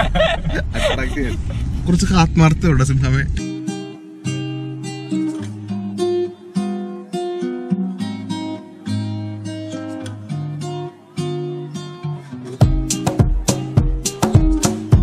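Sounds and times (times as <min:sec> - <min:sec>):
acoustic guitar music: 0:02.4 - 0:15.0.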